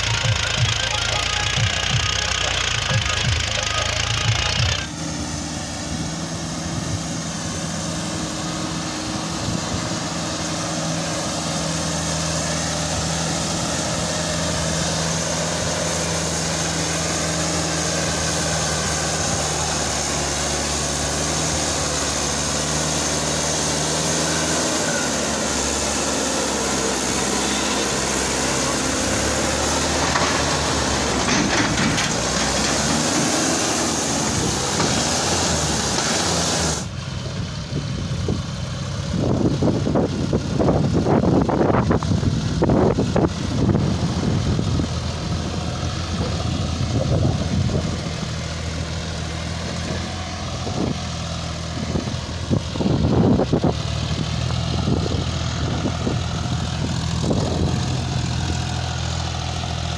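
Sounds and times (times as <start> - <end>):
diesel tractor engine working hard: 0.0 - 59.9.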